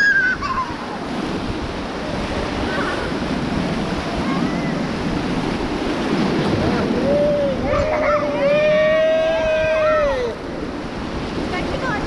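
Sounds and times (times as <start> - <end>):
churning river rapids: 0.0 - 12.0.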